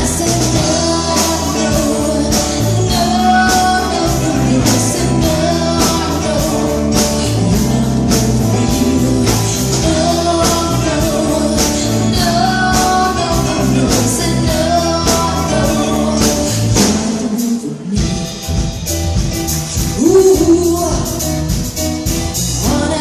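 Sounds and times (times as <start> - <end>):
person singing: 0.0 - 18.8, 19.7 - 21.8, 22.4 - 23.0
rock band playing: 0.0 - 23.0.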